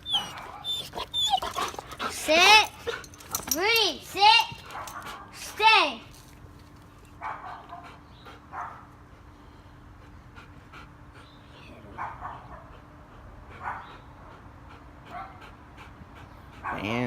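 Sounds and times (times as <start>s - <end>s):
dog panting: 0.0s - 5.7s, 7.3s - 17.0s.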